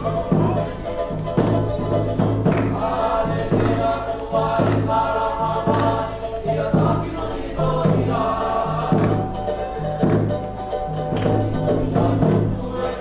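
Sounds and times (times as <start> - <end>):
bass drum beats: 0.0 - 13.0
group singing in harmony: 0.0 - 13.0
ukuleles and guitar strummed: 0.0 - 13.0.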